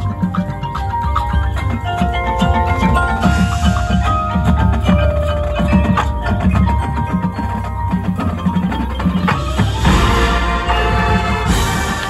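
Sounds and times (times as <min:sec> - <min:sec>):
marching band playing: 0:00.0 - 0:12.0
marimbas and bells: 0:00.0 - 0:12.0.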